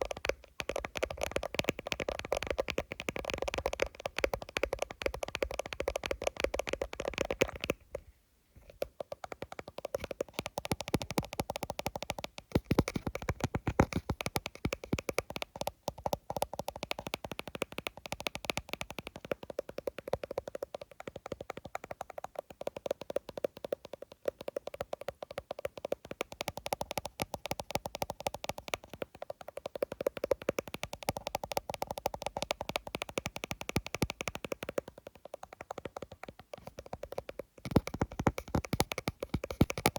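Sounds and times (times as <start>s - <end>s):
fingers tapping on phone screen: 0.0s - 39.9s.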